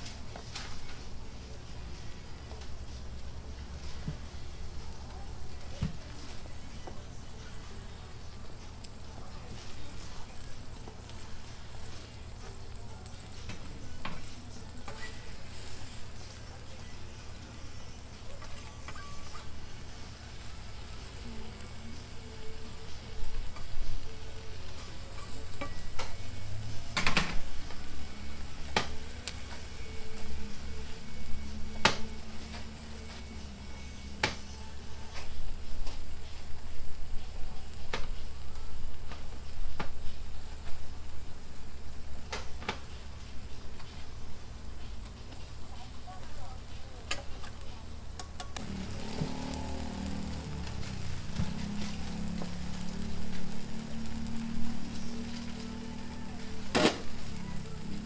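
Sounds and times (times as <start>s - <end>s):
bacon sizzling on griddle: 0.0s - 58.0s.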